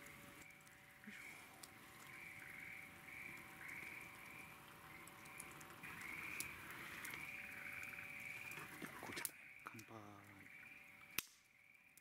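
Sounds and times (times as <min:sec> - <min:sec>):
faint steady hum: 0:00.0 - 0:12.0
frogs calling: 0:00.0 - 0:12.0.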